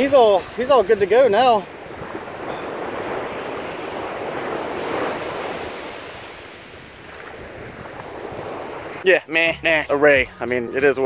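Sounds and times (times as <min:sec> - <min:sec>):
waves washing up beach: 0:00.0 - 0:09.0.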